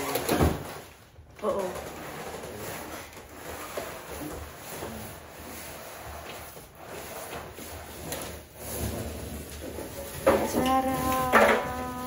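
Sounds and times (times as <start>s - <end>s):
cardboard box scraping: 1.4s - 12.0s.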